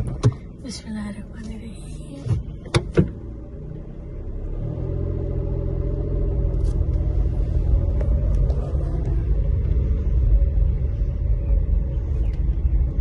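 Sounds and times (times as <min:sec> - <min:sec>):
car engine rumbling inside cabin: 0:00.0 - 0:13.0.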